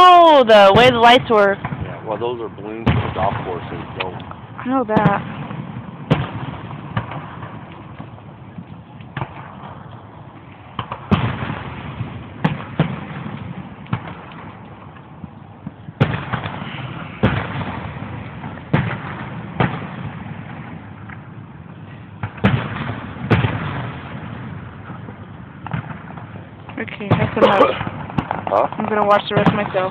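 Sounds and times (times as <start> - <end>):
fireworks booming with echo: 0.0 - 29.9.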